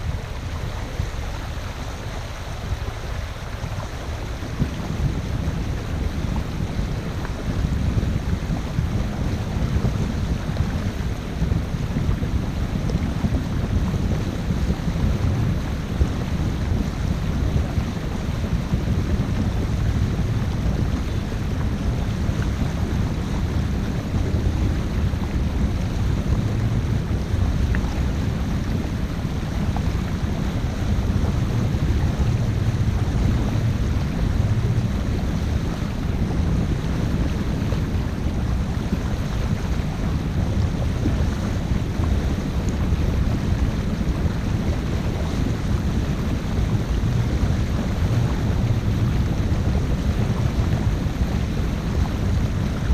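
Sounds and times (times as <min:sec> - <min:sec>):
rushing water: 0:00.0 - 0:52.9
wind buffeting microphone: 0:00.0 - 0:52.9.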